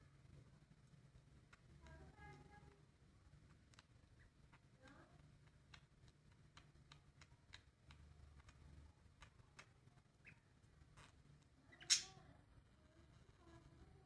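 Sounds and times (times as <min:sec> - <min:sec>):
faint irregular clicks: 0:00.8 - 0:14.0.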